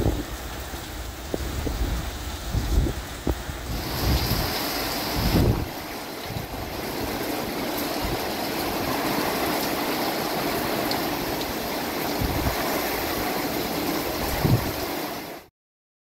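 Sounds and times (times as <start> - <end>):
wind gust on microphone: 0.0 - 15.4
heavy rain pouring: 0.0 - 15.5.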